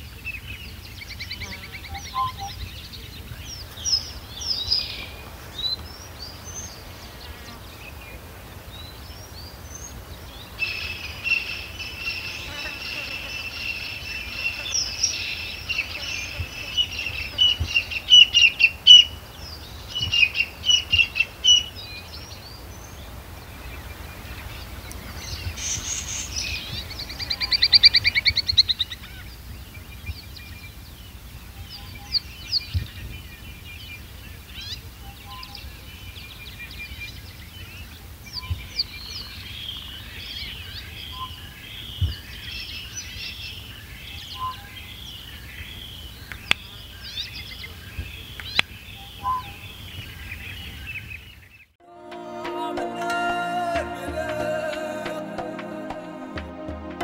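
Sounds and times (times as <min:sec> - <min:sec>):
birds chirping: 0:00.0 - 0:51.8.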